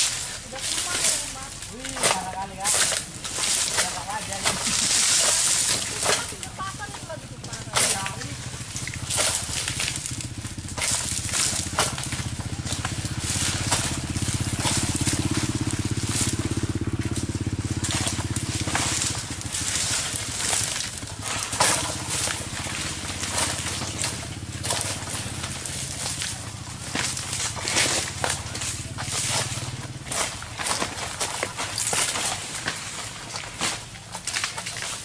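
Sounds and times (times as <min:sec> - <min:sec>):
sharp crackles and snaps: 0:00.0 - 0:35.0
small engine running: 0:00.0 - 0:35.0.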